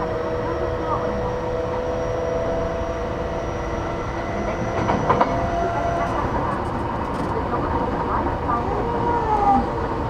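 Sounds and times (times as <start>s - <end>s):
train rumble inside cabin: 0.0s - 10.0s.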